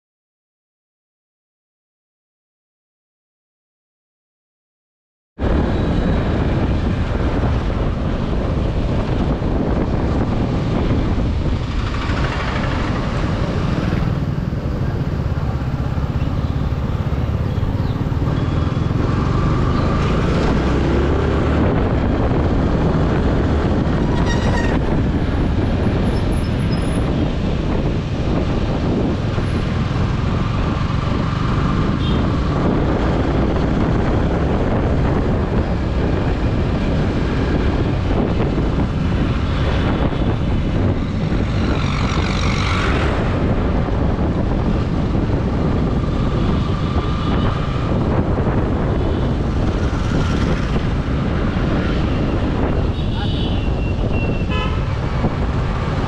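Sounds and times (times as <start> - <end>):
town traffic: 5.4 - 56.0.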